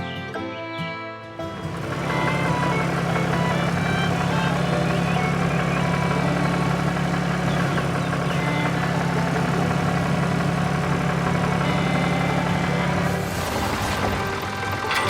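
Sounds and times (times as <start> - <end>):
tractor engine idling: 1.5 - 15.0.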